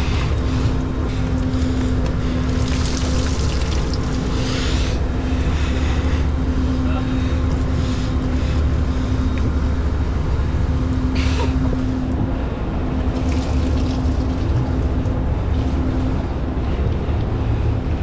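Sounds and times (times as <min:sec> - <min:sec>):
constant humming tone: 0:00.0 - 0:18.0
low drone of yacht machinery: 0:00.0 - 0:18.0.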